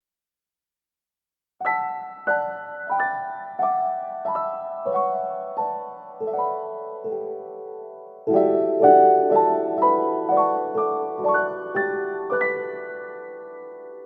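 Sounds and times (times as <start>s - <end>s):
gentle piano music: 1.6s - 14.0s.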